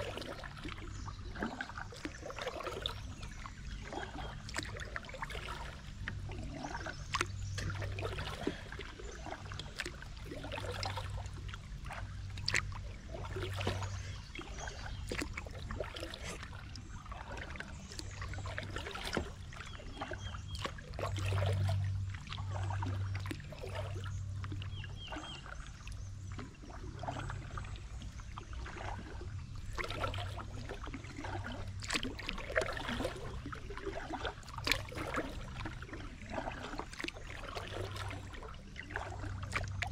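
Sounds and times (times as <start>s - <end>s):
paddle strokes splashing: 0.0s - 39.9s
water trickling off paddle: 0.0s - 39.9s.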